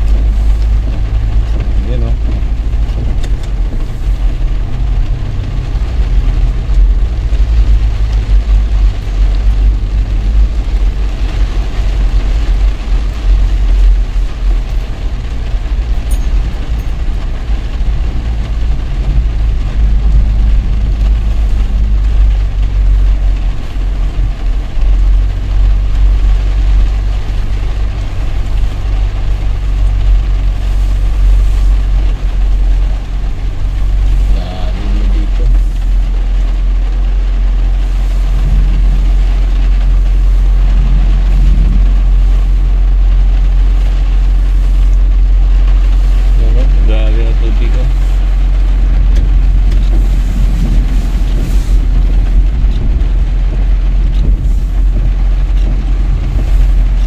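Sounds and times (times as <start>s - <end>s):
engine and road rumble: 0.0s - 57.0s
rain and wet tyres hissing: 0.0s - 57.0s.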